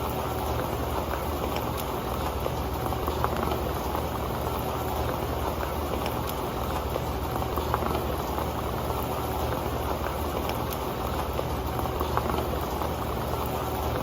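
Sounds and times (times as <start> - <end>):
rain pattering on metal pan: 0.0 - 14.0.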